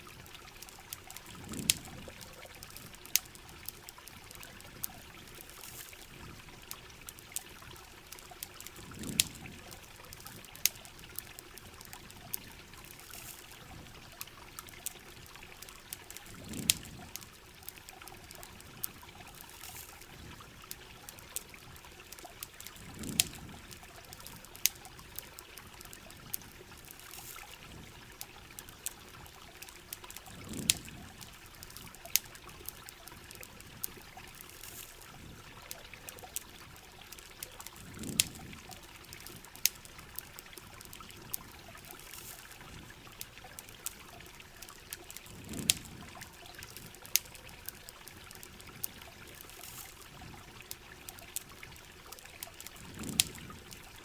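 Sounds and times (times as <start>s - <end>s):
campfire crackling: 0.0s - 54.0s
steady rain: 0.0s - 54.0s
trickling water: 0.0s - 54.0s.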